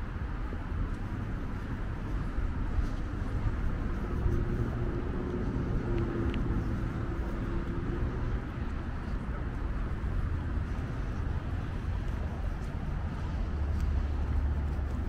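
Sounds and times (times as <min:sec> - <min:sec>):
rumble of traffic: 0:00.0 - 0:15.0
vehicle engine hum: 0:00.0 - 0:15.0.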